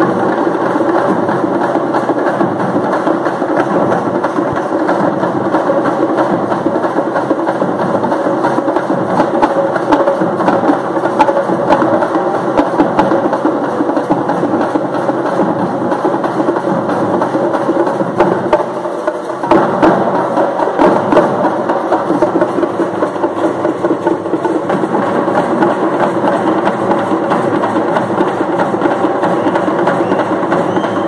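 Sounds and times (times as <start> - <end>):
frame drums beaten with sticks: 0.0 - 31.0.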